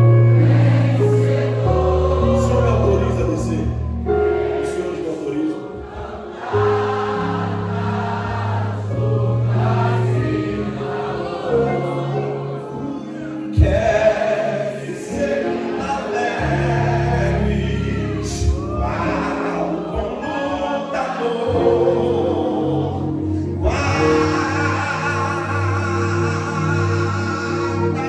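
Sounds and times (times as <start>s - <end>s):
gospel singing voices: 0.0s - 28.0s
keyboard and bass chords: 0.0s - 28.0s.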